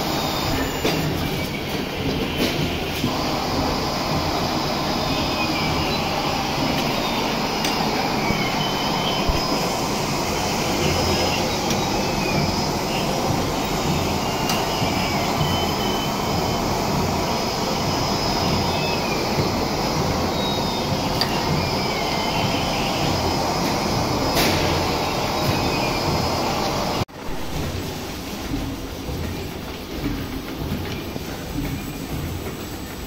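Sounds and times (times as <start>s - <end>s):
packing machinery din: 0.0s - 33.0s.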